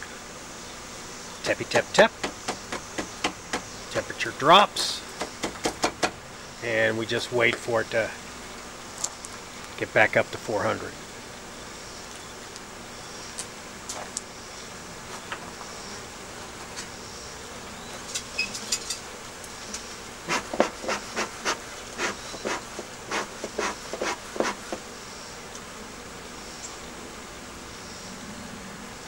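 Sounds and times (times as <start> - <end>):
bees flying close past: 0.0 - 29.0
honeybees buzzing: 0.0 - 29.0.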